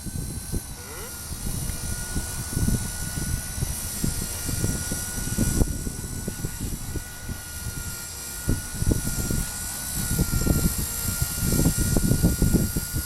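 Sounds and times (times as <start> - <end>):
rc helicopter motor whine: 0.0 - 13.0
wind buffeting microphone: 0.0 - 13.0.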